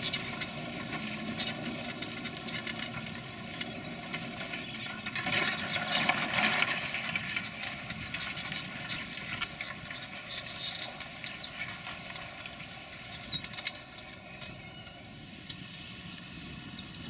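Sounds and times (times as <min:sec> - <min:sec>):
plough turning soil: 0:00.0 - 0:15.6
tractor engine: 0:00.0 - 0:17.0.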